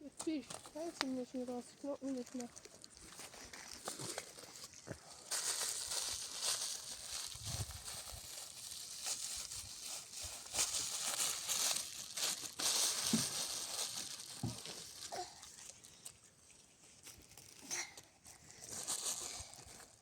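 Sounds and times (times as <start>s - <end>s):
dry brush rustling and crackling: 0.2s - 16.1s, 16.8s - 20.0s.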